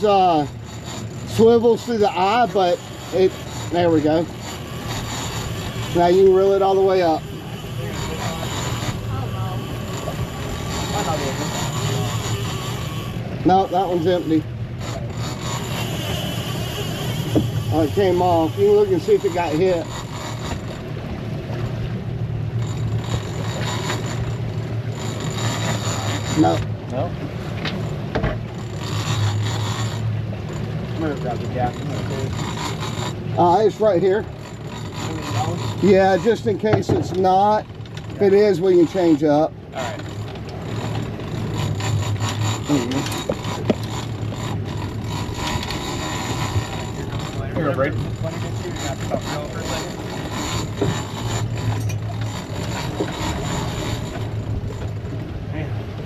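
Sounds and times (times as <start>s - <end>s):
boat engine humming: 0.0s - 56.0s
wind and water hiss: 0.0s - 56.0s.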